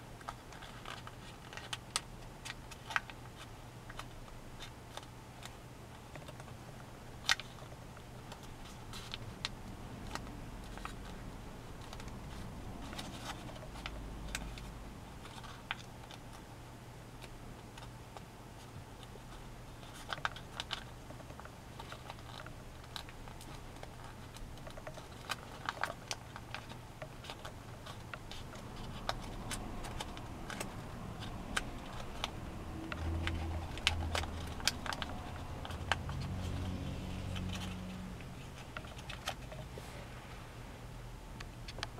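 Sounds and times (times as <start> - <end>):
paper crackling and clicking: 0.0 - 16.5, 17.2 - 39.7
low steady hum: 0.0 - 41.9.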